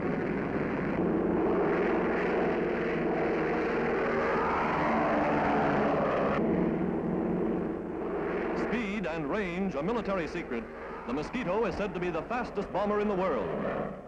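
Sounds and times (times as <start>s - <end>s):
piston aircraft engines droning: 0.0s - 14.0s.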